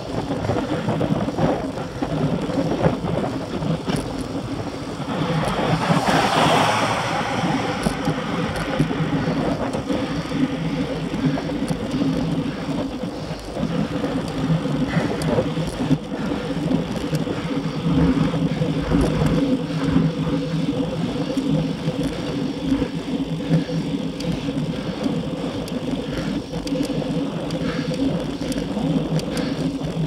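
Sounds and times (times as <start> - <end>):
bicycle tyres humming on asphalt: 0.0 - 30.0
constant rushing noise: 0.0 - 30.0.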